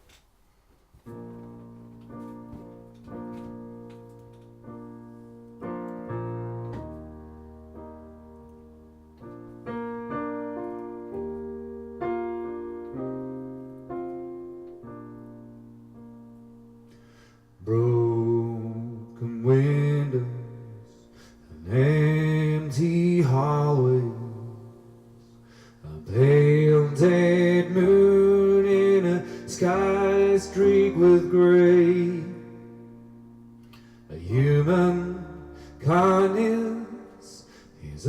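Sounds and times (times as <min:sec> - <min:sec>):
slow piano chords: 0:01.0 - 0:38.0.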